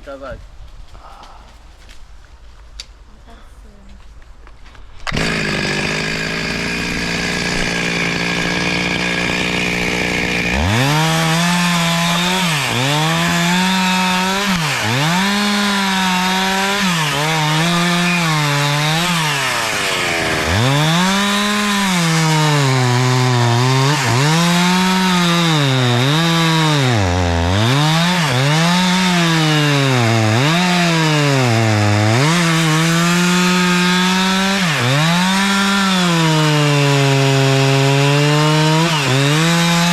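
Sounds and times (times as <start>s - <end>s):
chainsaw cutting wood: 5.0s - 39.9s.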